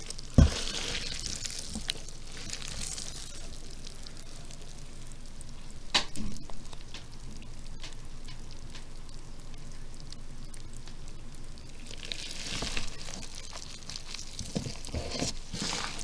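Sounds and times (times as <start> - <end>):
worm bin crackling and popping: 0.0 - 16.0.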